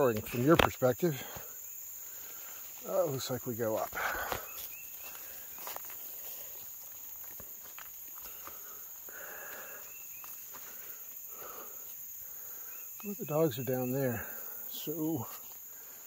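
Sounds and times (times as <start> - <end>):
high insect buzz: 0.0 - 16.0
footsteps crunching through dry leaves: 0.2 - 12.1, 15.0 - 16.0.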